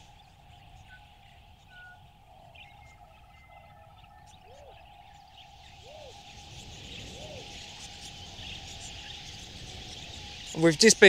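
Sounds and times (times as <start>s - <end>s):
bird trill: 0.0s - 11.0s
faint wild birds chirping: 0.0s - 11.0s
low arched bird call: 0.0s - 11.0s.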